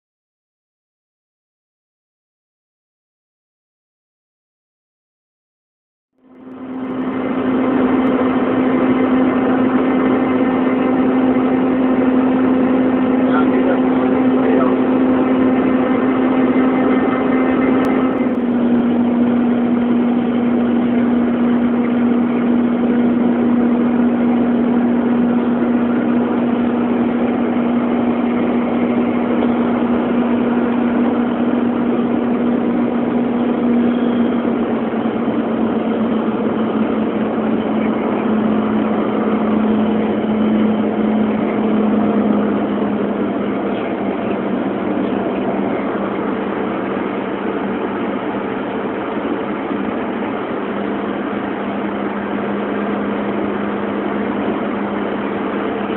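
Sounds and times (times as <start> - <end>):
jet cabin engine drone: 6.2 - 55.9.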